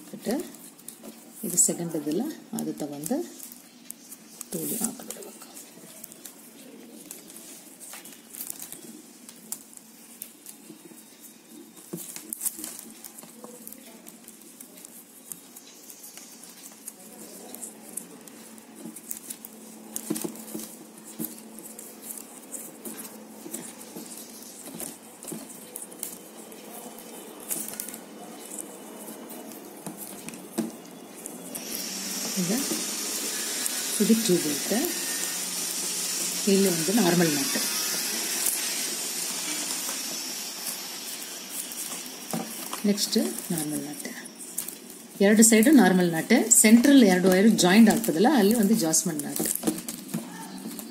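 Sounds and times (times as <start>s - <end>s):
plastic wire crinkling and clicking: 0.0s - 50.9s.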